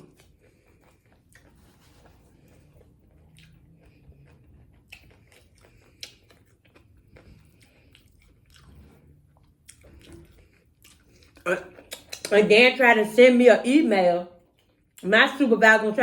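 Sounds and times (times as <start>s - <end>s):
chewing crunchy food: 0.0s - 12.4s, 14.3s - 15.0s.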